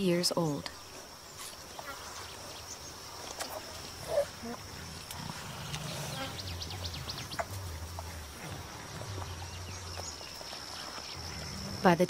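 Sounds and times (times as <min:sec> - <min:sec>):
bird chirping: 0:00.3 - 0:11.8
high insect buzz: 0:00.8 - 0:12.0.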